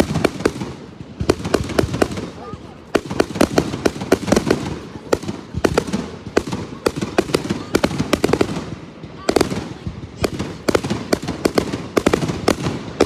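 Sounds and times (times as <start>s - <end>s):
fireworks cracks and bangs: 0.0s - 13.0s.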